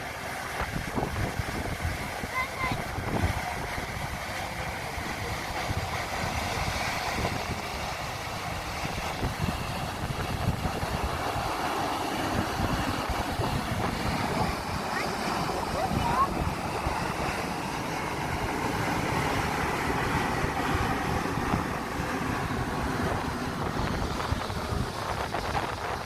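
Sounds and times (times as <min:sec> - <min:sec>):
wind buffeting microphone: 0:00.4 - 0:26.0
waterfall rushing: 0:01.6 - 0:26.0.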